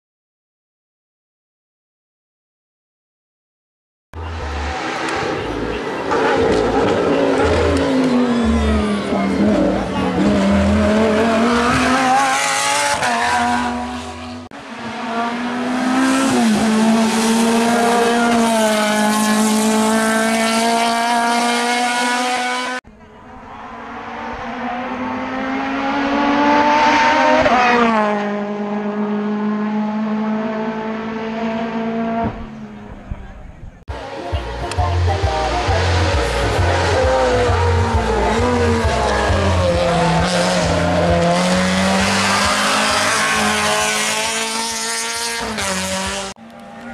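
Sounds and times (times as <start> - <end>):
race car passing by: 4.2 - 33.3, 33.9 - 46.9
race car engines at full throttle: 4.2 - 46.9.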